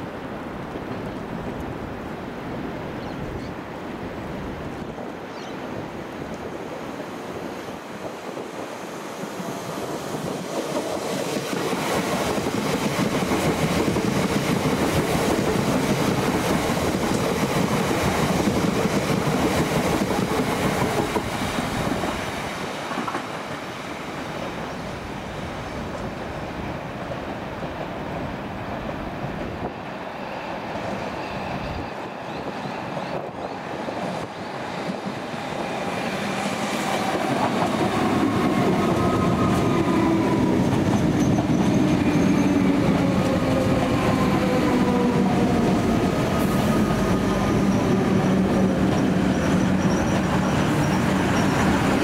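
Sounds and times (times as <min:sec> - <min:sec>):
electric train passing: 0:03.7 - 0:52.0.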